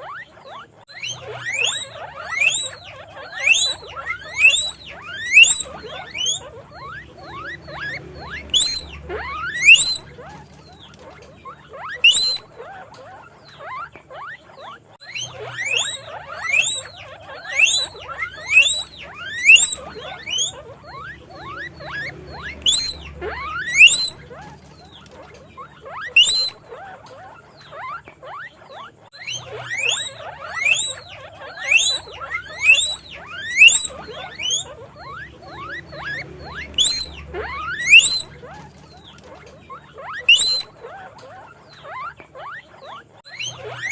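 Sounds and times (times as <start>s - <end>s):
guinea pig wheeking: 0.0s - 43.9s.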